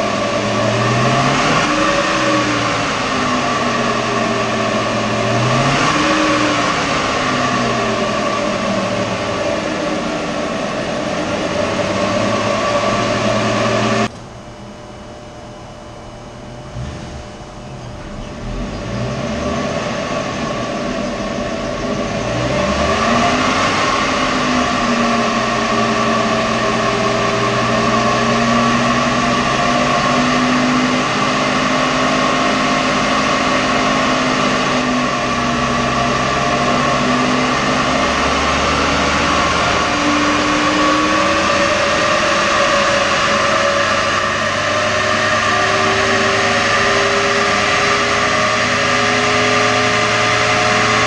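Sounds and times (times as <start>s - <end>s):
car engine revving through gears: 0.0s - 14.1s, 16.6s - 51.0s.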